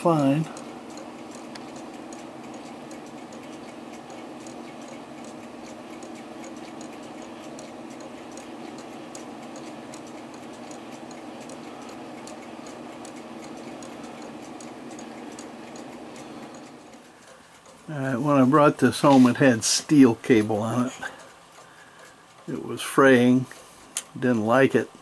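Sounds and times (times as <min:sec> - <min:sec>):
clock ticking quickly: 0:00.0 - 0:25.0
steady low hum: 0:00.0 - 0:25.0.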